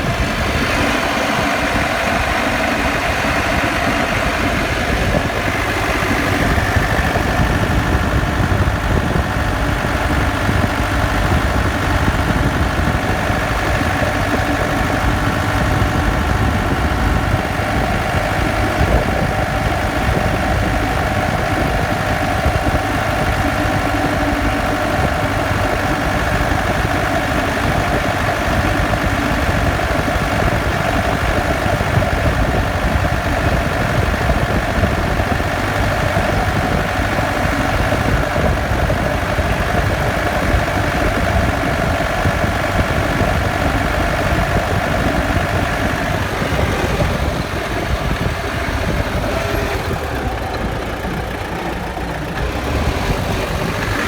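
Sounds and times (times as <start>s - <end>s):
engine and driveline rumble: 0.0s - 54.0s
vehicle whine: 0.0s - 54.0s.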